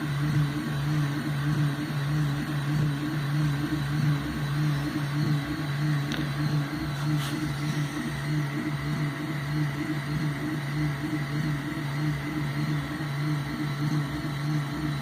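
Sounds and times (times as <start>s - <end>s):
stepper motors humming: 0.0s - 15.0s.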